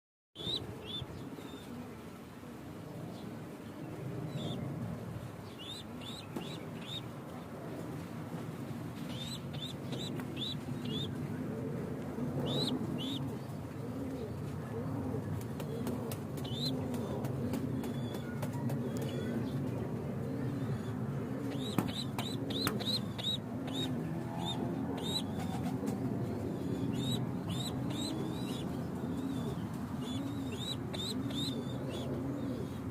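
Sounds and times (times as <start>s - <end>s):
pigeons cooing: 3.9s - 32.9s.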